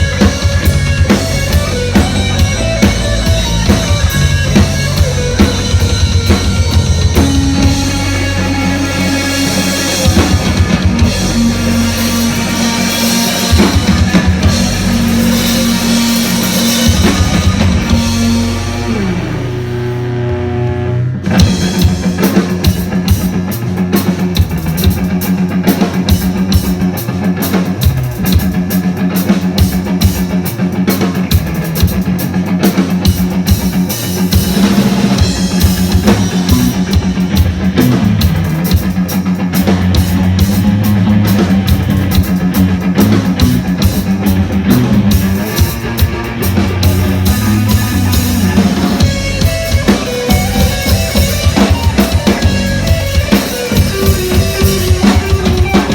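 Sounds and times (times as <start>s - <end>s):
drum kit rapid hits: 0.0s - 20.1s, 21.2s - 55.9s
sustained electric guitar: 0.0s - 55.9s.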